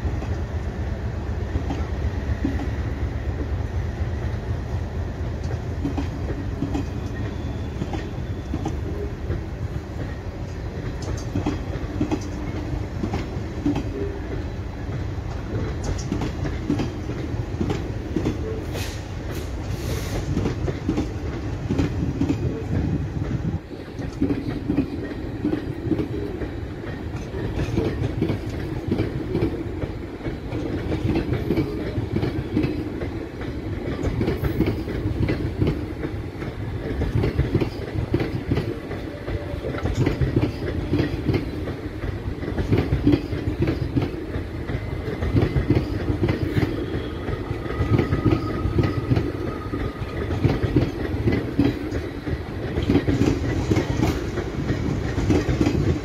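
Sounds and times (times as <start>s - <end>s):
train coaches rumbling: 0.0s - 56.0s
wheels clacking on rails: 0.0s - 56.0s.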